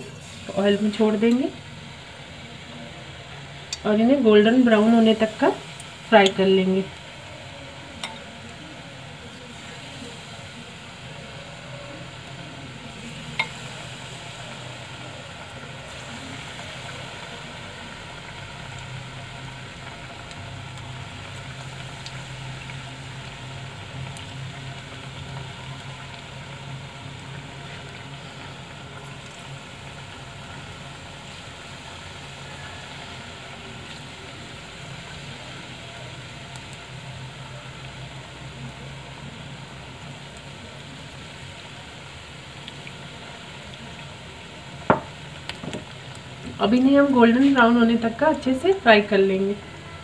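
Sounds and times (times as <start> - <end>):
oil sizzling and bubbling: 0.0 - 50.0.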